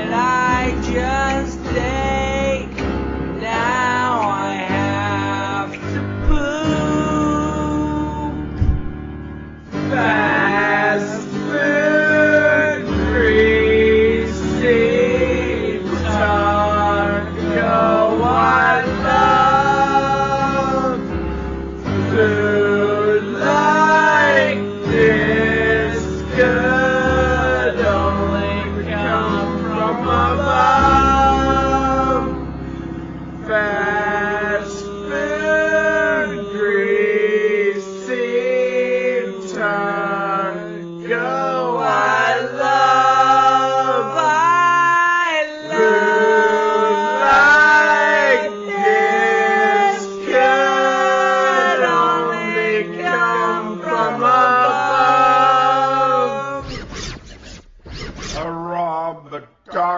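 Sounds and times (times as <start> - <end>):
slowed male voice singing: 3.4 - 8.9, 9.9 - 21.1, 22.0 - 32.4, 33.4 - 56.6.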